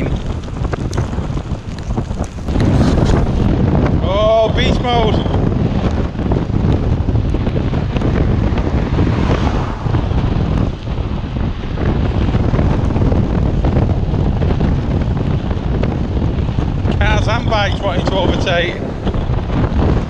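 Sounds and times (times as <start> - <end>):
heavy wind buffeting microphone: 0.0 - 20.0
tyres rolling on wet road: 0.0 - 20.0.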